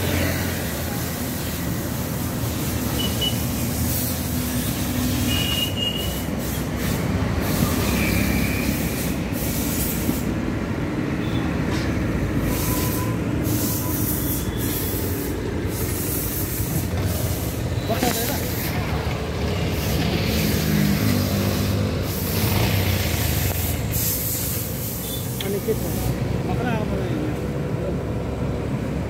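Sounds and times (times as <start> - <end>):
heavy trucks passing: 0.0 - 29.0
motorcycles passing: 0.0 - 29.0.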